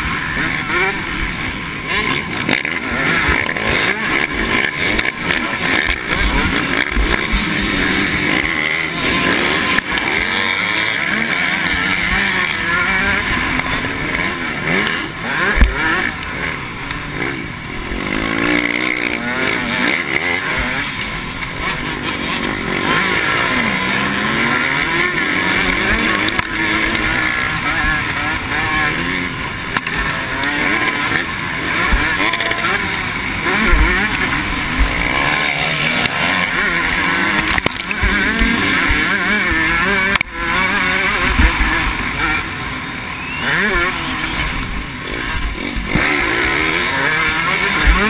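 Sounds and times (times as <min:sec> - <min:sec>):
motocross engine revving: 0:00.0 - 0:48.0
other dirt bikes: 0:00.0 - 0:48.0.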